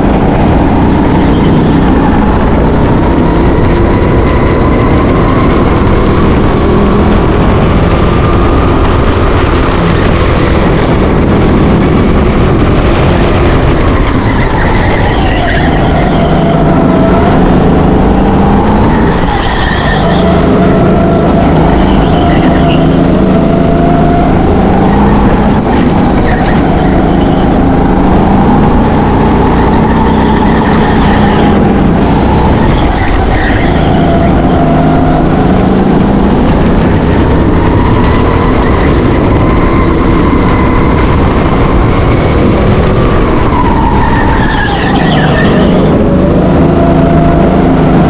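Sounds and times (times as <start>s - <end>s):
go-kart engine at full throttle: 0.0s - 48.0s.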